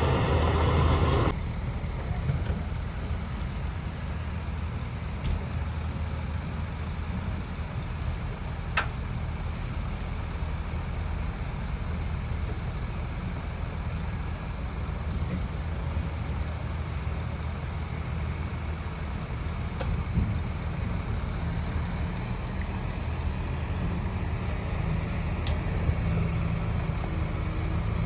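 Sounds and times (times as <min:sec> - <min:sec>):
diesel machinery rumbling: 0:00.0 - 0:28.0.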